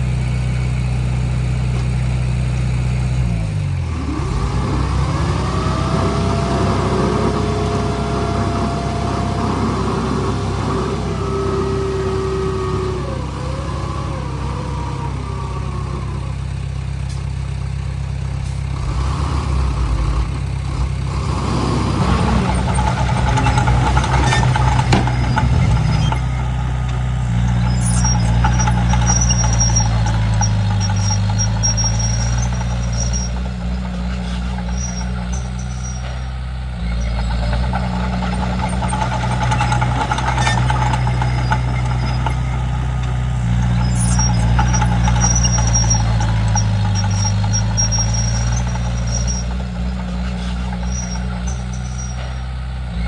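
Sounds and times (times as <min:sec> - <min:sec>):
bulldozer diesel engine running: 0:00.0 - 0:53.0
faint high squeaks: 0:05.4 - 0:17.3, 0:21.9 - 0:53.0.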